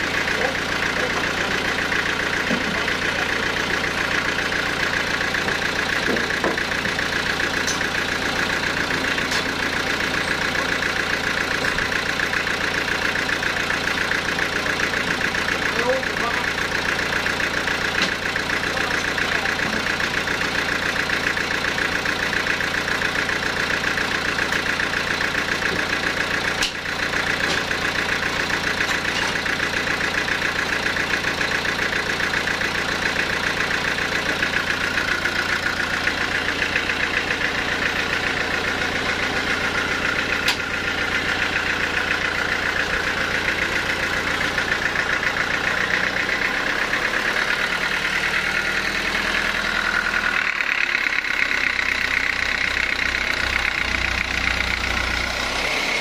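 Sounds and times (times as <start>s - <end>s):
band sawmill humming: 0.0s - 56.0s.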